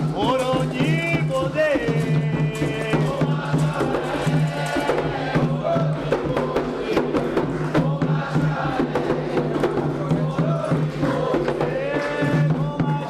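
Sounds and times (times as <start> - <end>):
hand drums and percussion: 0.0 - 13.0
voices singing: 0.0 - 13.0.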